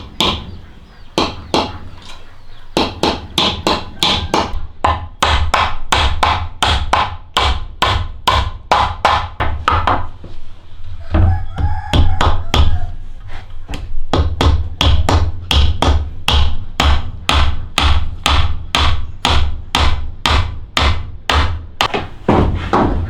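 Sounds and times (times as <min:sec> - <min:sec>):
hammer striking wood: 0:00.0 - 0:10.2, 0:13.7 - 0:23.0.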